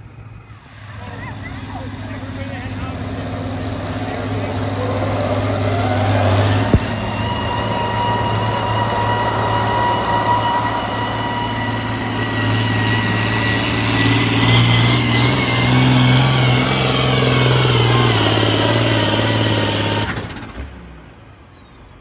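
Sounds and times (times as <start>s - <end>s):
diesel engine at full throttle: 0.0s - 22.0s
high whines and whistle: 0.0s - 22.0s.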